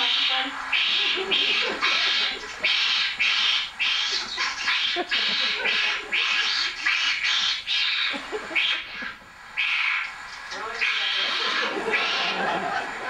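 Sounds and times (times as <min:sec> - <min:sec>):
bird rasping screams over loudspeakers: 0:00.0 - 0:12.6.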